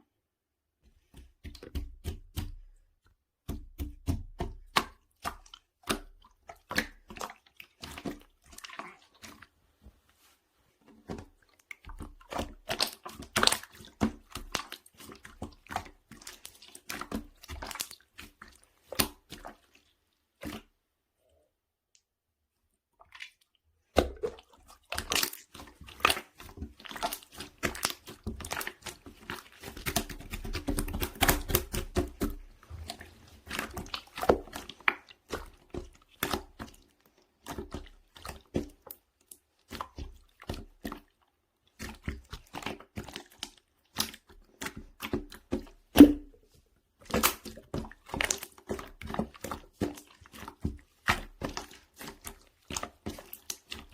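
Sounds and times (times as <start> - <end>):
hands squishing wet slime: 0.8 - 53.9.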